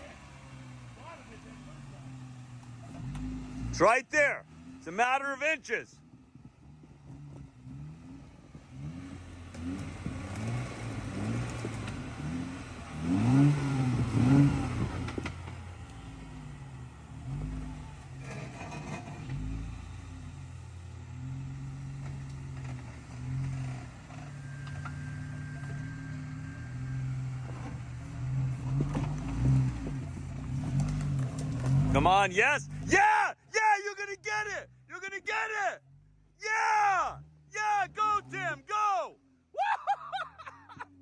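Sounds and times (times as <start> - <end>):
car engine revving: 0.0 - 33.1, 35.8 - 38.7.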